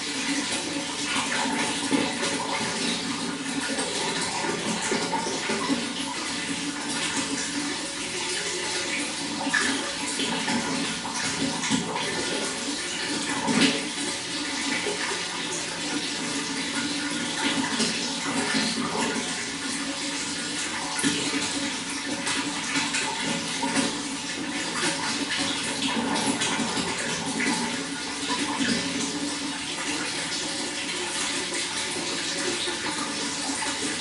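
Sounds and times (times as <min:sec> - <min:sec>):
water running: 0:00.0 - 0:34.0.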